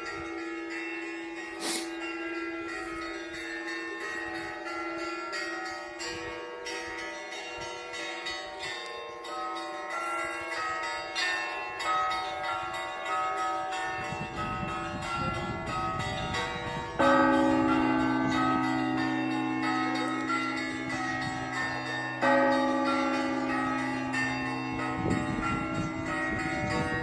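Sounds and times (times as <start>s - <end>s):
hum of large bells: 0.0s - 27.0s
small church bells ringing: 0.0s - 27.0s.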